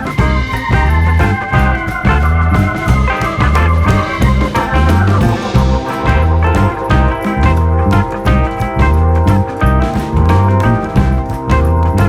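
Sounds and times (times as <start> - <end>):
plucked guitar: 0.0 - 12.0
steady bass beat: 0.0 - 12.0.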